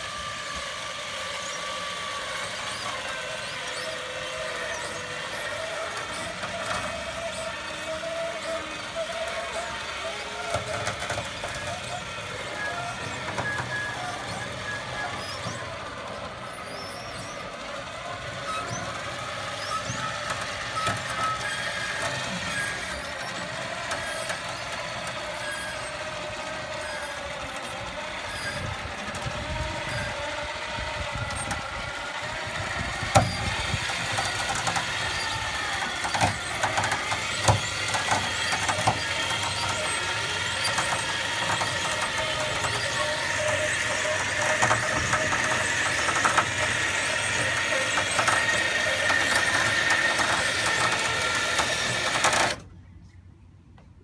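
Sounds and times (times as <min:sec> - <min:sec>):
electric winch motor whining: 0:00.0 - 0:52.8.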